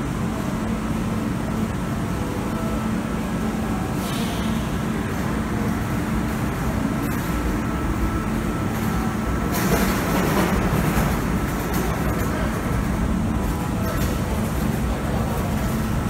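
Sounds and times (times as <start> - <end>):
electric train equipment hum: 0.0 - 16.0.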